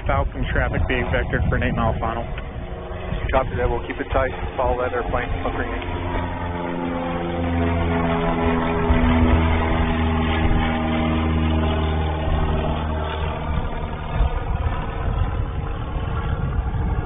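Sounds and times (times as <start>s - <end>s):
piston aircraft engine drone: 0.0s - 17.0s.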